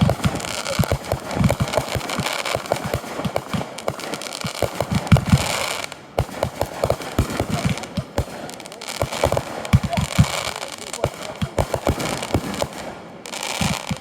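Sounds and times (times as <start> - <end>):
fireworks popping and banging: 0.0 - 14.0
hissing crackle: 0.0 - 14.0.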